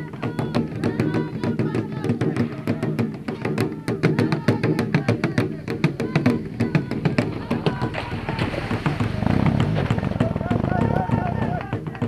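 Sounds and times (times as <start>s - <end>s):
percussion: 0.0s - 12.0s.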